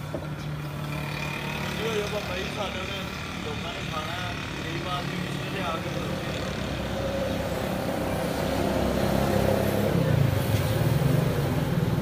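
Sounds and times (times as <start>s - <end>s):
street traffic: 0.0s - 12.0s
small vehicle engine running: 0.4s - 12.0s.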